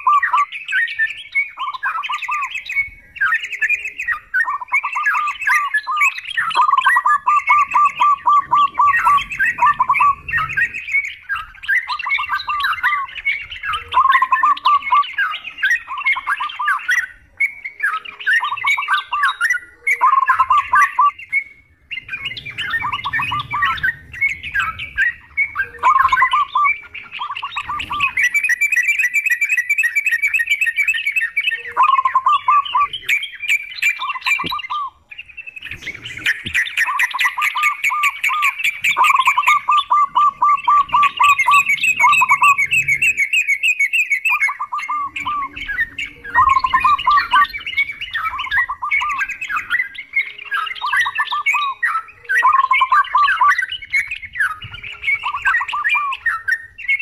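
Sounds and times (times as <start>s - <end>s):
birds chattering and warbling: 0.0s - 57.0s.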